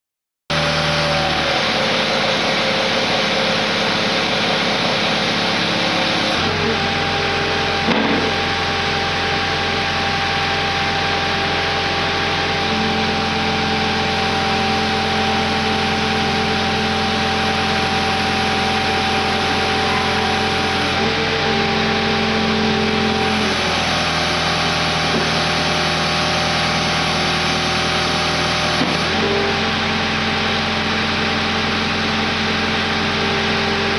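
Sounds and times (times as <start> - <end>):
skid steer engine under load: 0.5 - 33.9.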